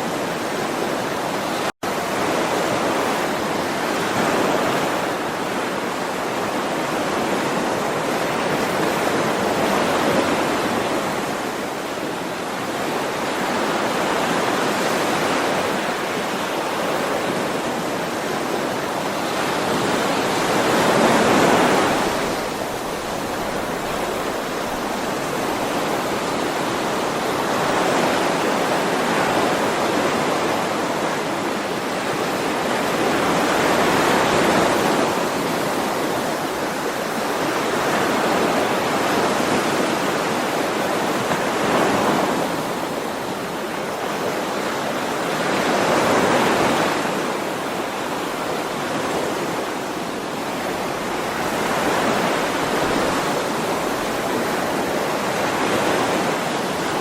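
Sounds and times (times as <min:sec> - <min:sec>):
ocean surf washing onto shore: 0:00.0 - 0:57.0.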